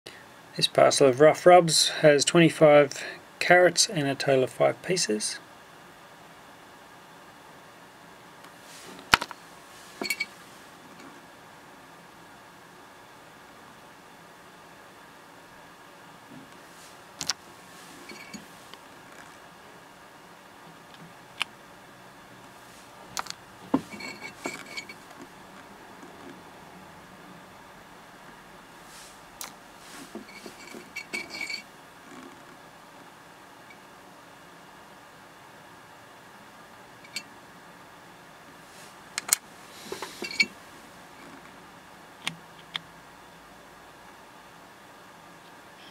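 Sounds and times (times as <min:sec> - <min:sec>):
faint steady hiss: 0:00.1 - 0:45.9.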